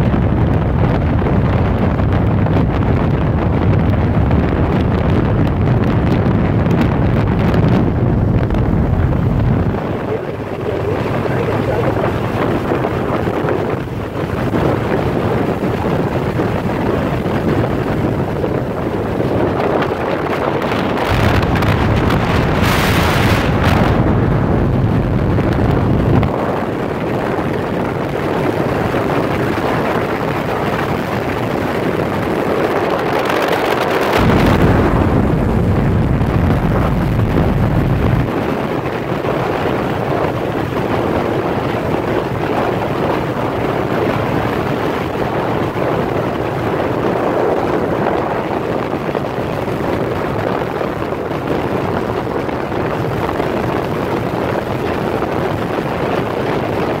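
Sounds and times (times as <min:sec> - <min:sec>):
motorcycle engine: 0:00.0 - 0:48.0
wind rushing over microphone: 0:00.0 - 0:57.0.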